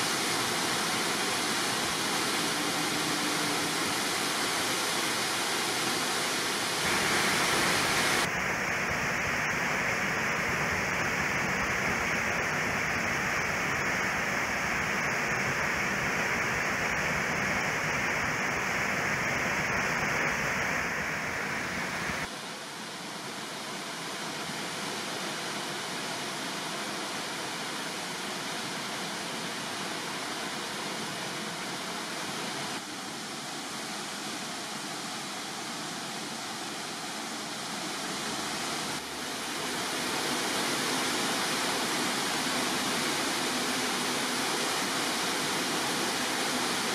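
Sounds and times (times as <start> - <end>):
waterfall roaring into pool: 0.0 - 46.9.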